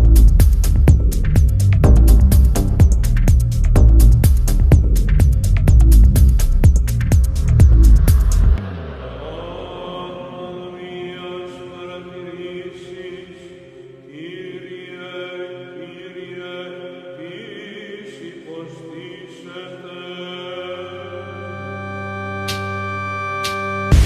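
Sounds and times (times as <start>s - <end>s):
chant-like voices music: 0.0s - 24.0s.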